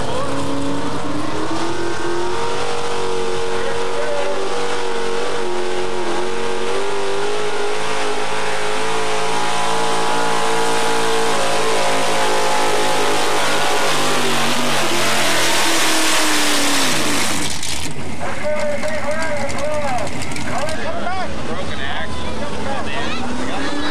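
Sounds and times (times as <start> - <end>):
truck engine at high revs: 0.0 - 23.9.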